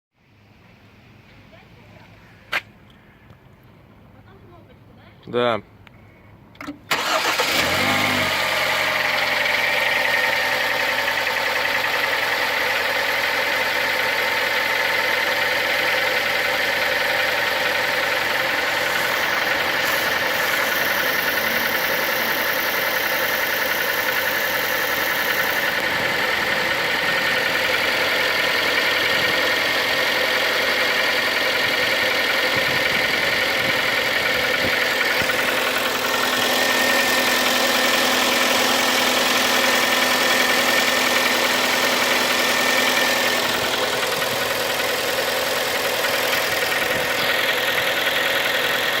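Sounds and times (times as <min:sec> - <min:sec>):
car engine starting and idling: 0:06.5 - 0:49.0
engine knock: 0:08.3 - 0:49.0.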